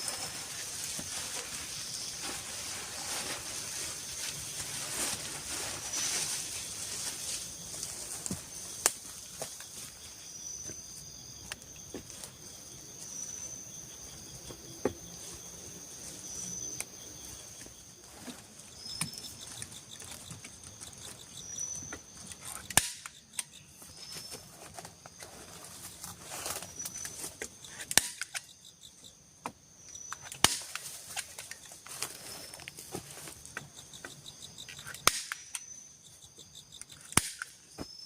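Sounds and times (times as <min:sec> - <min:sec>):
high insect noise: 0:00.0 - 0:38.0.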